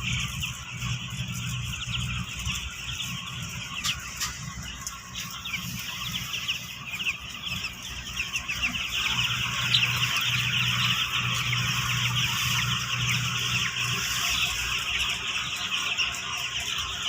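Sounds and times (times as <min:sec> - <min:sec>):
chicks peeping: 0:00.0 - 0:17.0
steady low hum: 0:00.0 - 0:17.0.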